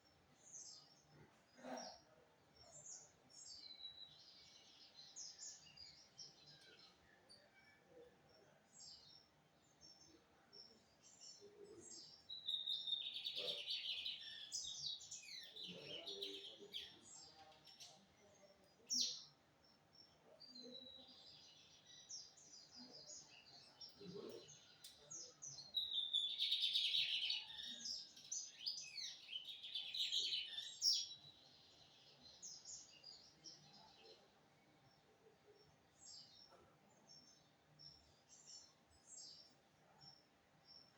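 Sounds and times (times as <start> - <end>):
bird twittering song: 2.5 - 7.2, 8.4 - 40.9.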